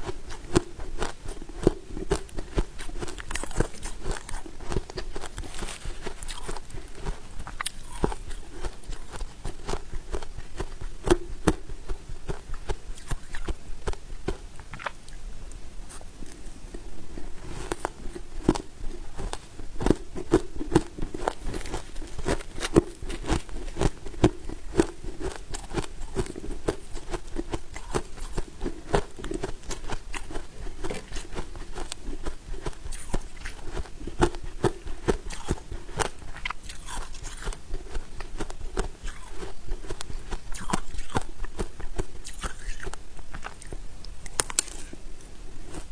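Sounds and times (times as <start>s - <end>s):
frost crunching being chewed: 0.0s - 15.2s, 15.8s - 45.0s, 45.6s - 45.9s.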